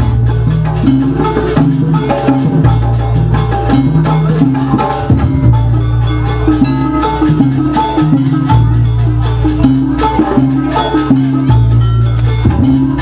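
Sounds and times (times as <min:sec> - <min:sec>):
melodic instrument line: 0:00.0 - 0:13.0
quick busy percussion: 0:00.0 - 0:13.0.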